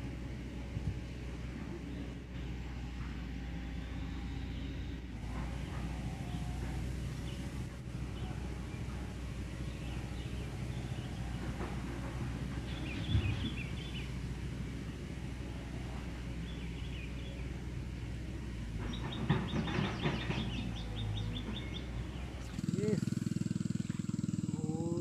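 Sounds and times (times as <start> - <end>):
birds chirping: 1.0 - 25.0.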